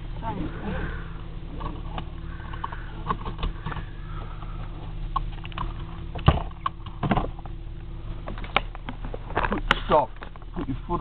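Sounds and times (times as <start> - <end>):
car engine idling: 0.0 - 11.0
clicks and knocks of seat shifting: 1.2 - 11.0.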